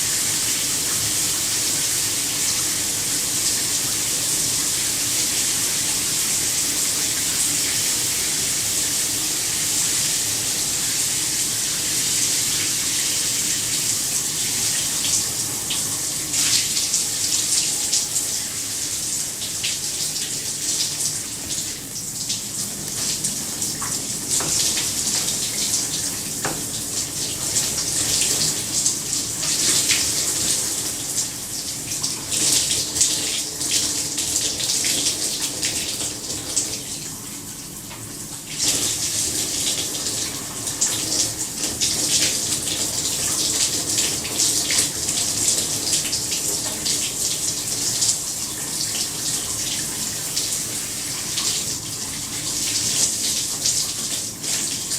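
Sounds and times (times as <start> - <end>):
shower spray on tiles: 0.0 - 54.9.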